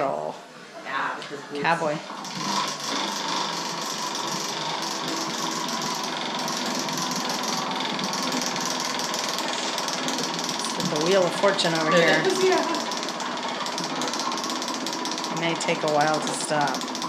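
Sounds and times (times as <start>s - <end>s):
prize wheel clicking: 2.2s - 17.0s.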